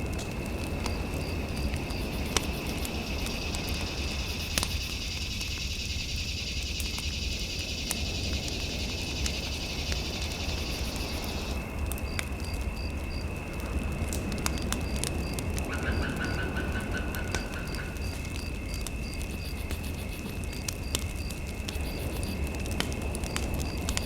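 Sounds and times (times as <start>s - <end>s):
fire crackling in a fireplace: 0.0s - 24.0s.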